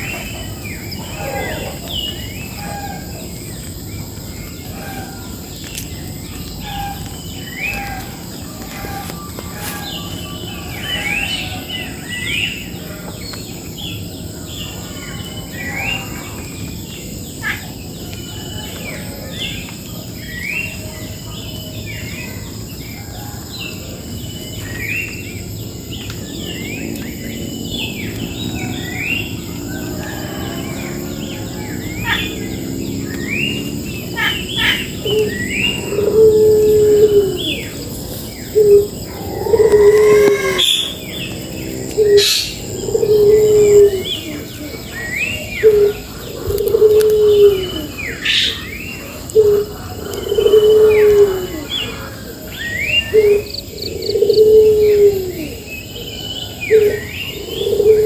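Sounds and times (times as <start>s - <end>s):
insect drone: 0.0s - 58.0s.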